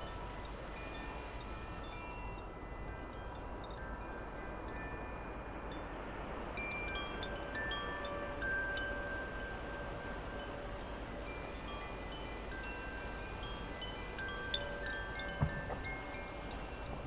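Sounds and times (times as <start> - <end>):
steady outdoor hiss: 0.0 - 17.0
wind chimes ringing: 0.0 - 17.0.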